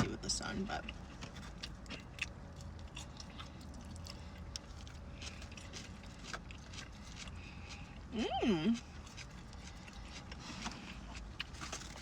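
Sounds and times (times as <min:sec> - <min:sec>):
low steady hum: 0:00.0 - 0:12.0
person chewing wet crunching: 0:00.7 - 0:12.0.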